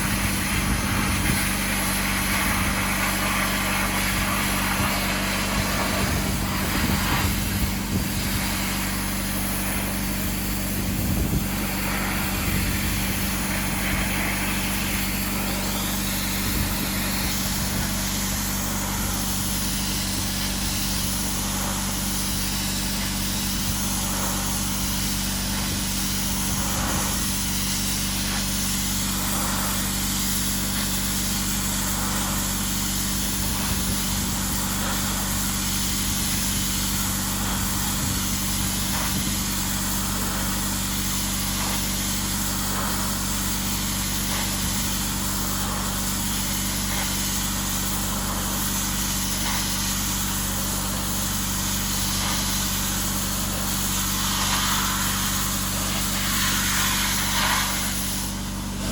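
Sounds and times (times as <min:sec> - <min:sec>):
electric motor hum: 0:00.0 - 0:58.9
hiss of blasting air: 0:00.0 - 0:58.9.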